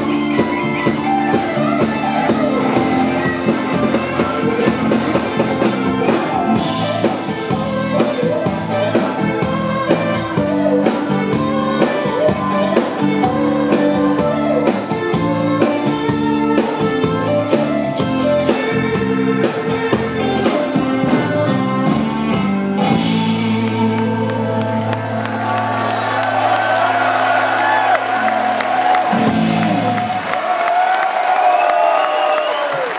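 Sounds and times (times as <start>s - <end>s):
blues-rock band playing: 0.0s - 31.0s.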